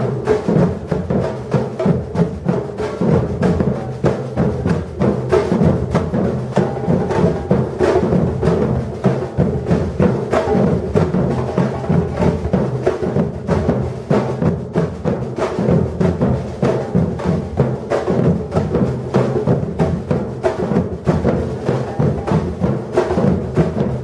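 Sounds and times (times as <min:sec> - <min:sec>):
drum ensemble playing fast rhythm: 0:00.0 - 0:24.0.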